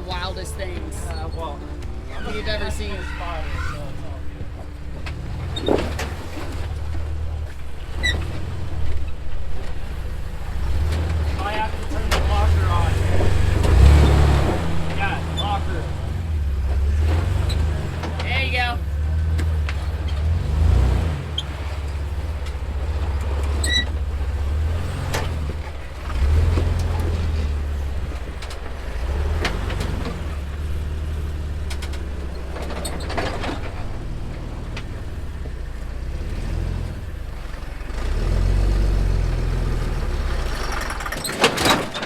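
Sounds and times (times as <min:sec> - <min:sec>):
engine running at low revs: 0:00.0 - 0:42.0.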